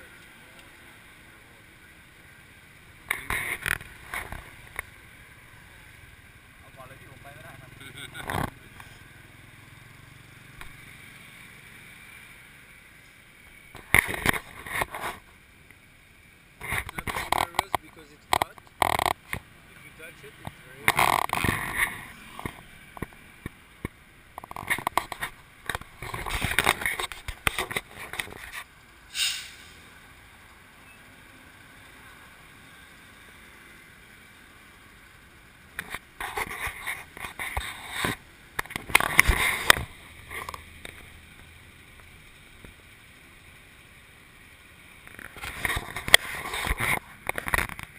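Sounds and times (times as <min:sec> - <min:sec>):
low traffic hum: 0:00.0 - 0:47.9.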